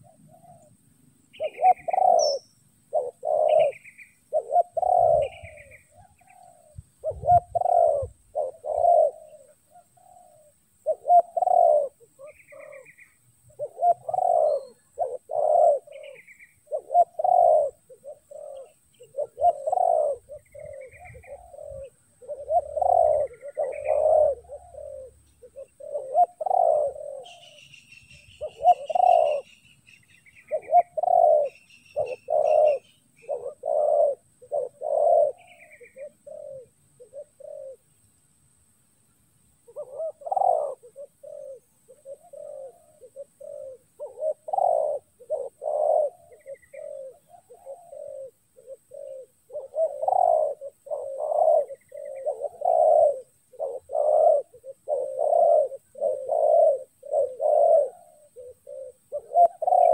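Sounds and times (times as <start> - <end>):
doves cooing: 0.0 - 38.0, 39.6 - 59.9
small birds chirping: 0.0 - 59.9.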